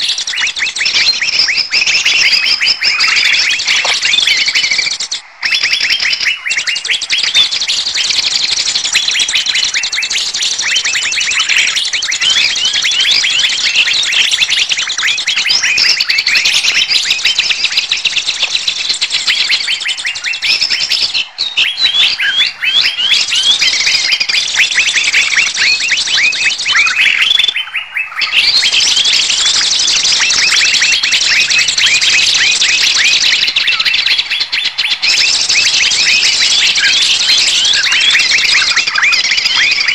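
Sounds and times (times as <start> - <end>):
many songbirds chirping: 0.0 - 39.9.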